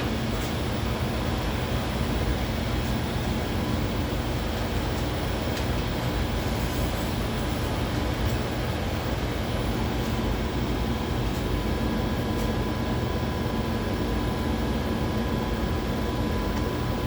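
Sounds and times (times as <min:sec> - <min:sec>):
faint continuous whine: 0:00.0 - 0:17.0
machine hum: 0:00.0 - 0:17.0.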